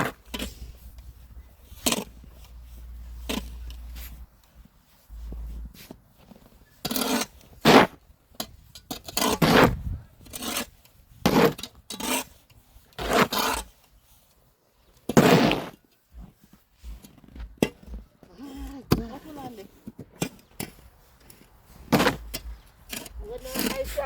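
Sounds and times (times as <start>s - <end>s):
snow shovel scraping snow: 0.0s - 24.0s.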